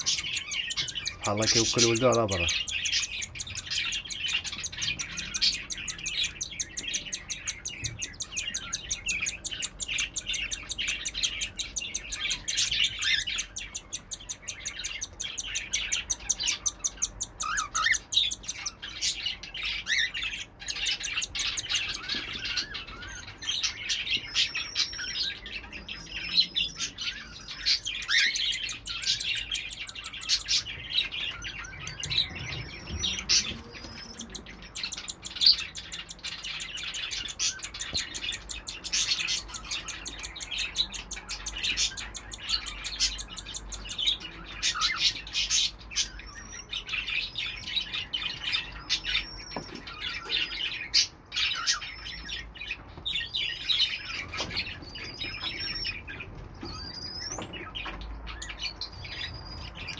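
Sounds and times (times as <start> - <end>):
bird chick begging chirps: 0.0 - 59.9.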